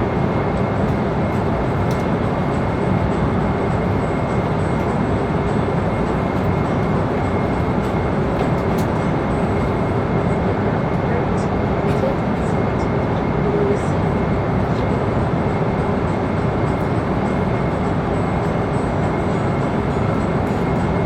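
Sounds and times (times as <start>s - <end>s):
engine and airflow rush: 0.0s - 21.0s.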